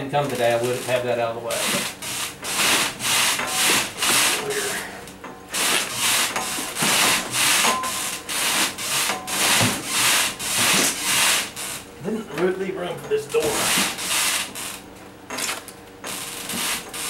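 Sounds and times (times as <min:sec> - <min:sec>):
rhythmic rasping strokes: 0:00.5 - 0:14.8.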